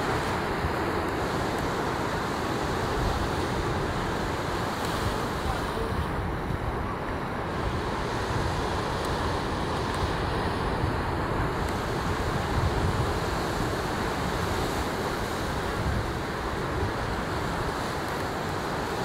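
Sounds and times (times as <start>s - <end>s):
ocean surf on a beach: 0.0s - 19.0s
wind rumbling on microphone: 0.0s - 19.0s.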